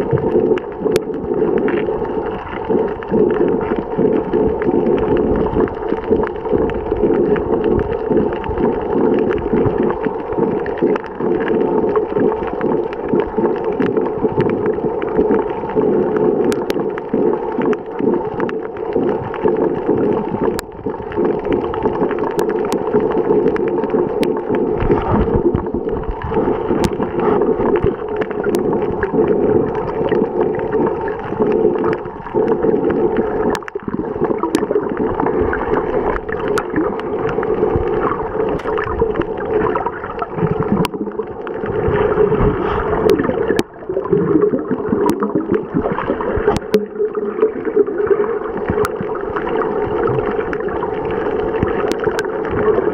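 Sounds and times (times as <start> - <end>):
sharp underwater clicks: 0.0 - 52.9
underwater rush of moving water: 0.0 - 52.9.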